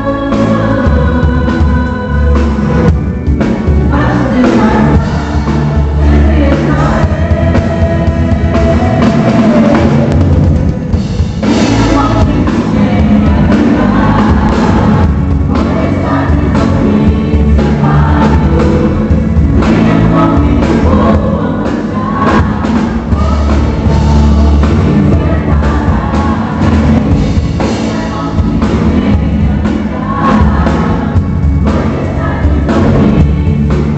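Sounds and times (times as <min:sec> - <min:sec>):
person singing: 0:00.0 - 0:10.8, 0:11.4 - 0:33.9
worship band music: 0:00.0 - 0:33.9.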